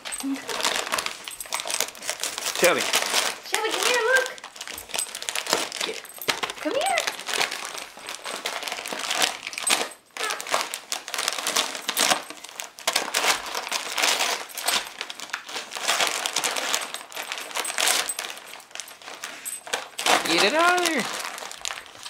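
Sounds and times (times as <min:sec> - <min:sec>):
gift-wrap paper crinkling: 0:00.0 - 0:22.0.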